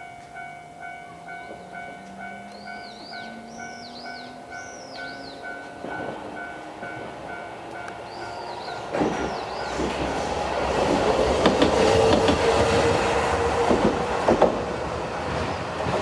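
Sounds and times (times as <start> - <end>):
crossing bell clanging: 0.0 - 14.7
tram wheels knocking on rail joints: 0.1 - 16.0.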